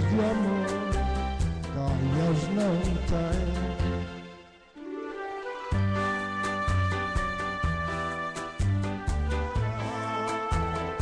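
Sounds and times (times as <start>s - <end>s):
instrumental karaoke backing track: 0.0s - 11.0s.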